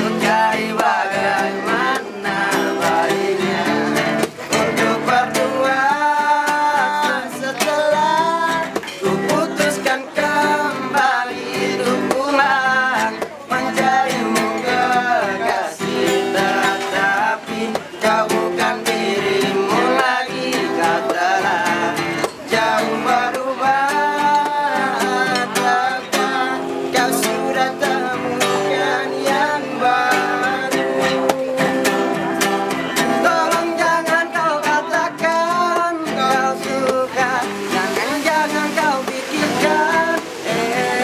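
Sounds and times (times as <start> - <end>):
men singing in harmony: 0.0 - 41.0
strummed acoustic guitar: 0.0 - 41.0.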